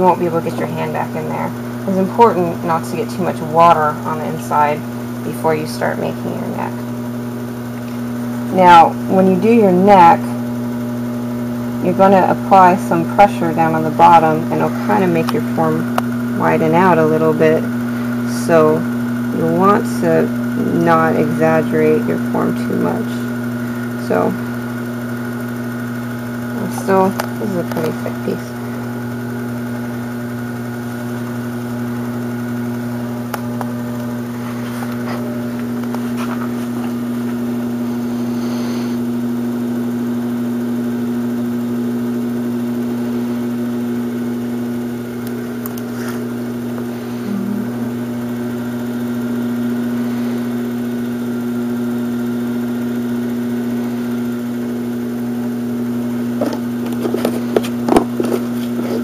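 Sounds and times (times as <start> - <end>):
pottery wheel motor humming: 0.0 - 59.0.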